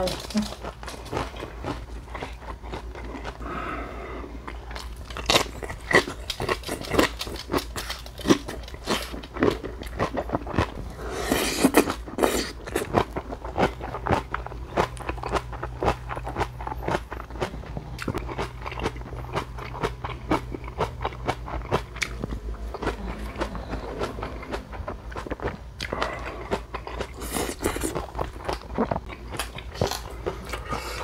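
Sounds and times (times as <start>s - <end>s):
chewing and crunching kimchi: 0.0s - 31.0s.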